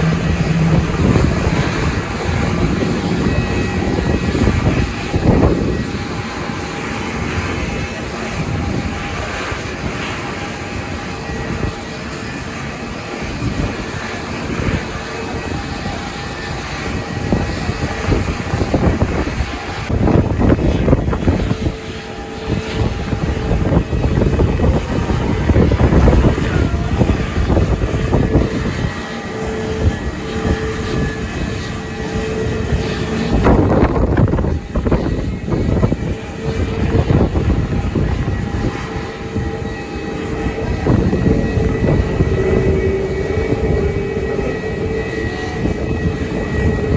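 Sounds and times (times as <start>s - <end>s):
jet engines whining and rumbling: 0.0s - 46.9s
wind buffeting microphone: 0.0s - 46.9s.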